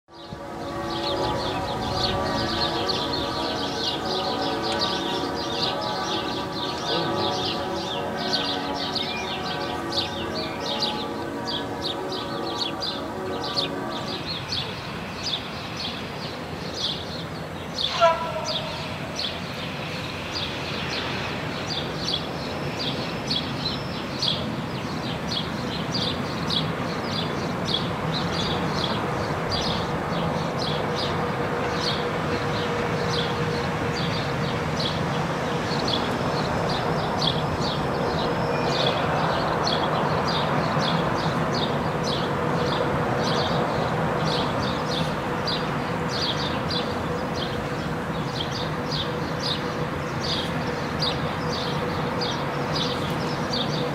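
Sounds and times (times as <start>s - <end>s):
electric train rushing: 0.4s - 53.9s.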